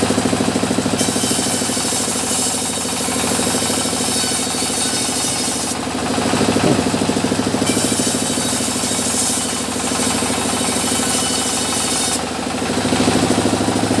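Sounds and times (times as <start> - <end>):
sawmill engine pulsing: 0.0 - 14.0.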